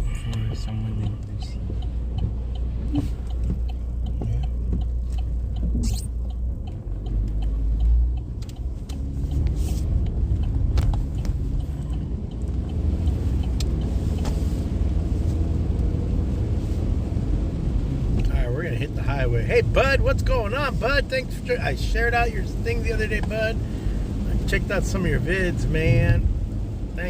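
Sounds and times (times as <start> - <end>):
engine and tyres rumbling: 0.0 - 27.0
rain ticking on car: 0.0 - 27.0.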